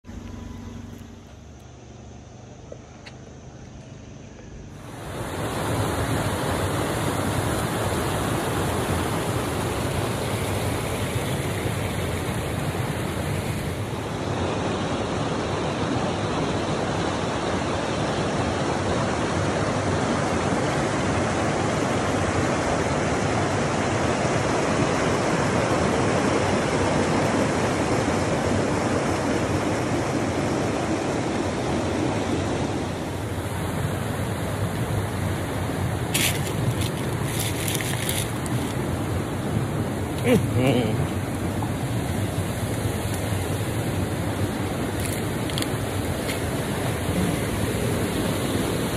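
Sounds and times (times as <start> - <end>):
stream rushing over rocks: 4.7 - 48.9.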